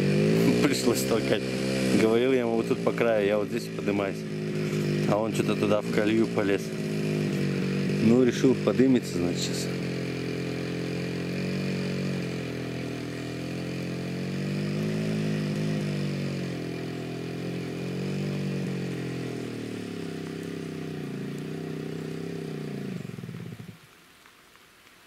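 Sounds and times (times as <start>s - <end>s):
motorcycle engine labouring: 0.0s - 23.9s.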